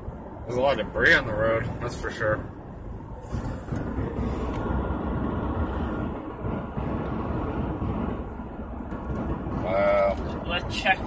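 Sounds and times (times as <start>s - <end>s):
car tyres and engine rumble: 0.0s - 11.0s.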